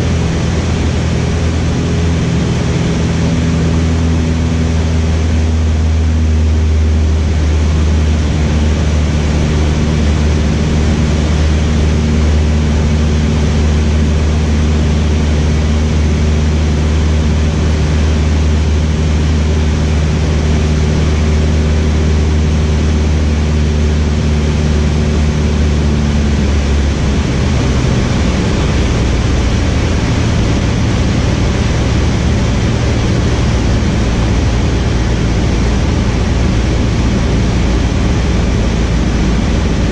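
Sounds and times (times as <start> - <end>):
aircraft engine and propeller droning: 0.0 - 39.9
rush of air noise: 0.0 - 39.9.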